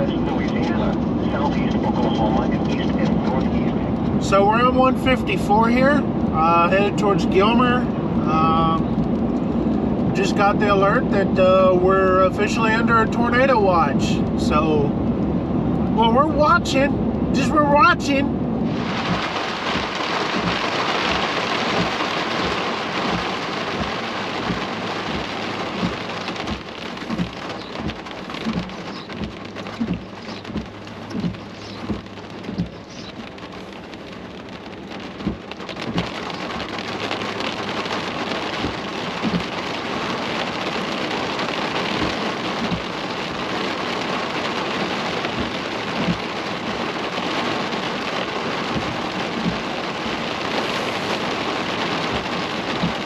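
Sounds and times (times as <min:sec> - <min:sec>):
heavy rain on a car roof: 0:00.0 - 0:53.0.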